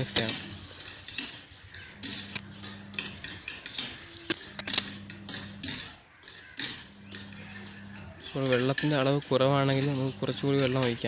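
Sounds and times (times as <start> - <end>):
spoon scraping around bowl: 0.0 - 11.0.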